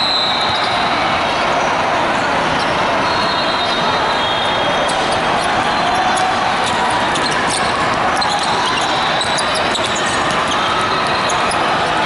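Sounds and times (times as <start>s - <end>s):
sneaker squeaks: 0.0s - 0.9s, 2.6s - 12.0s.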